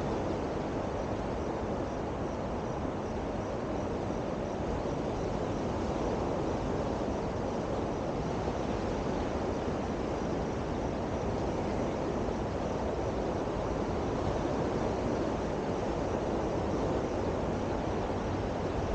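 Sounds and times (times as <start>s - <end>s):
wind rushing on microphone: 0.0s - 18.9s.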